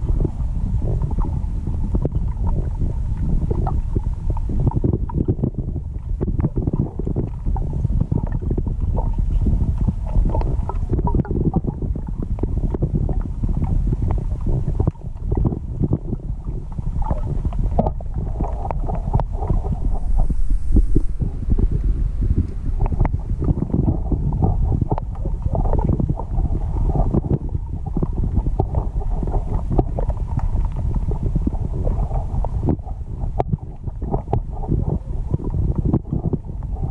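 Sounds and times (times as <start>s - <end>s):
small underwater clicks and crackles: 0.0s - 36.9s
underwater river rumble: 0.0s - 36.9s.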